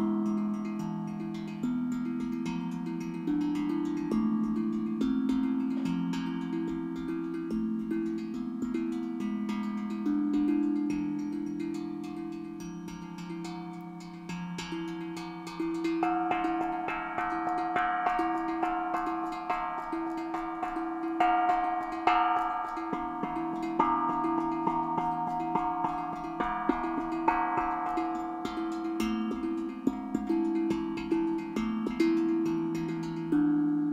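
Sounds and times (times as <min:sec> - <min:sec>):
steel tongue drum melody: 0:00.0 - 0:33.9.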